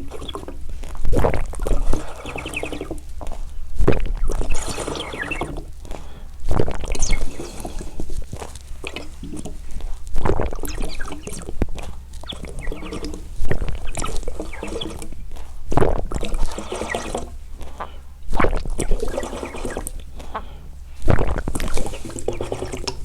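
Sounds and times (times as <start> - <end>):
person gulping water: 0.0 - 23.0.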